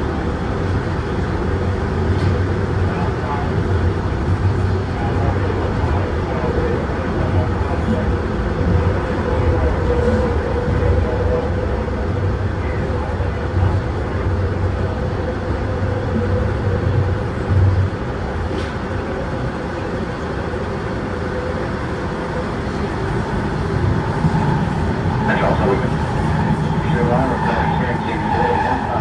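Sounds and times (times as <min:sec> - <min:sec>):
train wheels rumbling on rail: 0:00.0 - 0:29.0
train whine: 0:00.0 - 0:29.0.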